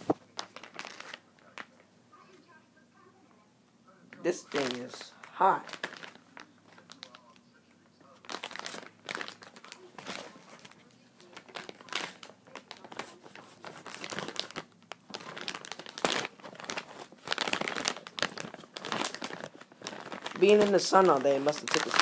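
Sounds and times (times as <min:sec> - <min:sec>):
packaging crinkling and rustling: 0:00.0 - 0:01.8, 0:04.4 - 0:22.0.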